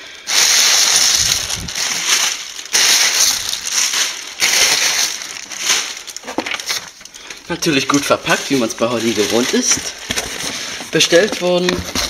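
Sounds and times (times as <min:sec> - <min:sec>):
packing paper rustling and crinkling: 0:00.0 - 0:12.0.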